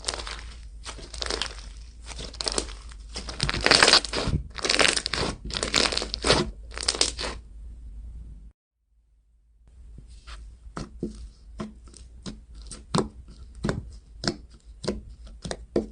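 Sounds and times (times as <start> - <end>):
slime squishing by hand: 0.0 - 7.4, 10.0 - 15.9.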